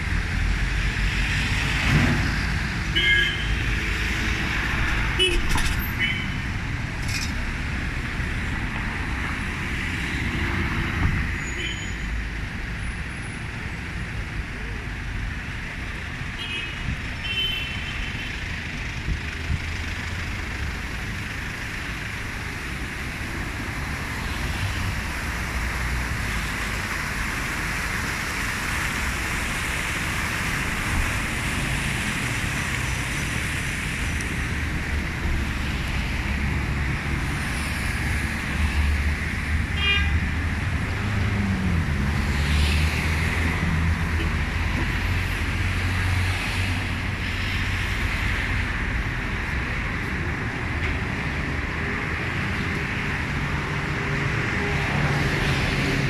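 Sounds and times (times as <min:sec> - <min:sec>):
city traffic rumble: 0:00.0 - 0:56.0.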